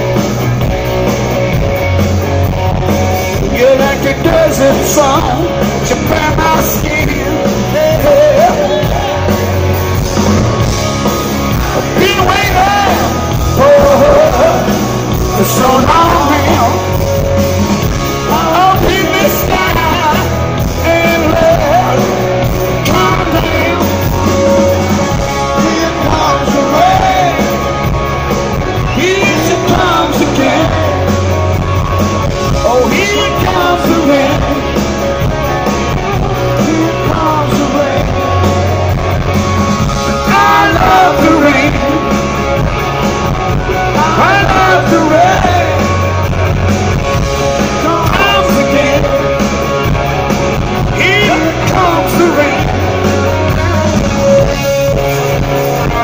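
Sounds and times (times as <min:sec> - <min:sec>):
drums: 0:00.0 - 0:56.0
electric guitar: 0:00.0 - 0:56.0
man singing: 0:03.3 - 0:10.1, 0:11.5 - 0:56.0.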